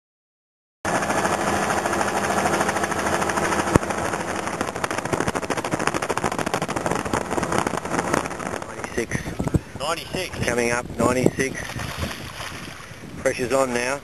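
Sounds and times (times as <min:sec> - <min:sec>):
helicopter rotor chopping: 0:00.9 - 0:14.0.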